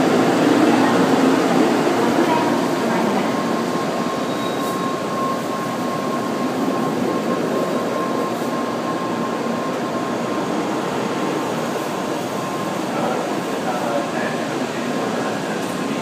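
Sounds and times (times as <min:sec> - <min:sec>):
train cars rumbling past: 0:00.0 - 0:16.0.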